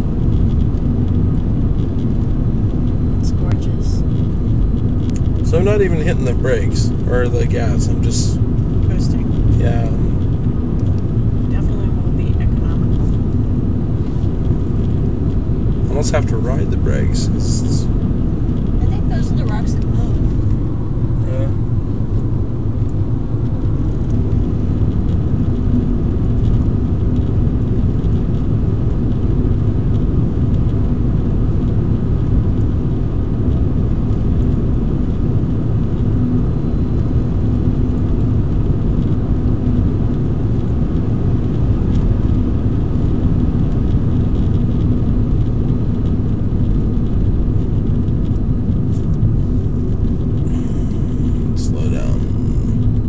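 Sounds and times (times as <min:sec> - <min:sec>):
faint steady hum: 0:00.0 - 0:53.0
road and tyre noise in car: 0:00.0 - 0:53.0.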